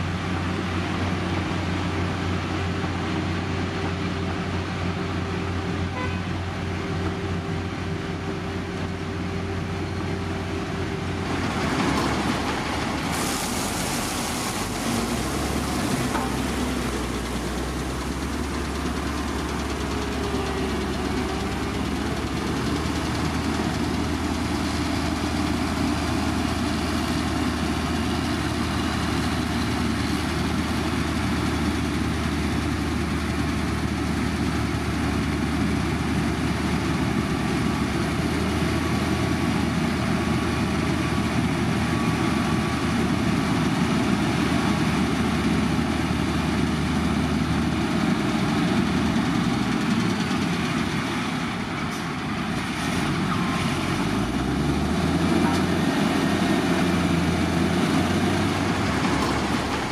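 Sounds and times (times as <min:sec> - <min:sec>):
diesel construction machinery running: 0:00.0 - 0:59.9.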